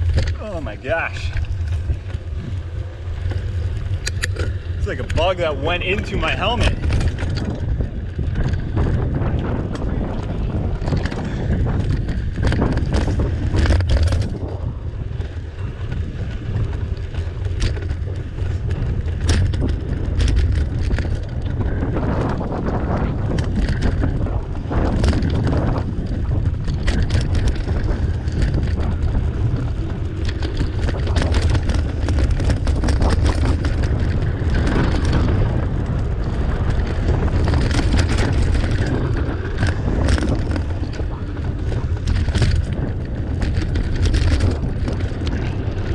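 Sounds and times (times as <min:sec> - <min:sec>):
bike clicks and rattles: 0:00.0 - 0:45.9
wind buffeting microphone: 0:00.0 - 0:45.9.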